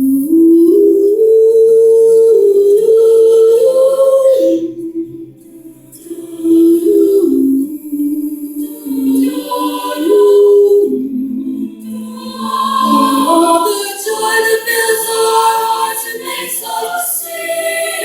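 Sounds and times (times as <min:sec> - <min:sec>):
chorus singing a cappella: 0:00.0 - 0:18.0.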